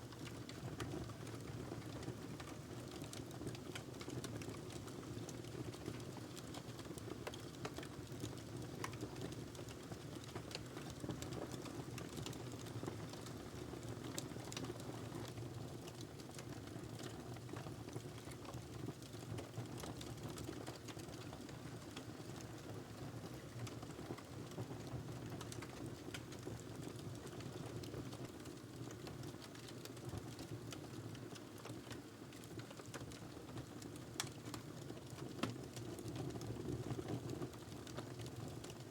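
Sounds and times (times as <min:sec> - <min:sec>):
wood fire crackling: 0:02.2 - 0:38.8.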